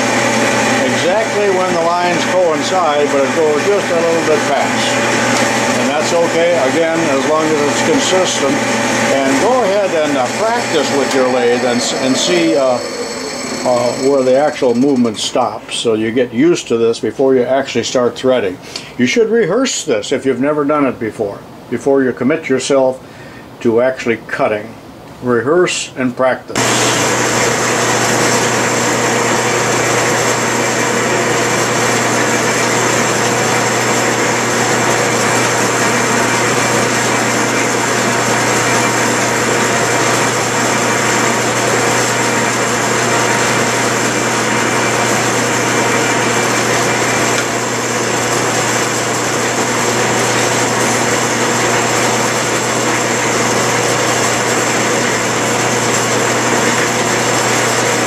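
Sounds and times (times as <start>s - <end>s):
metal lathe running: 0.0s - 15.6s, 26.6s - 58.0s.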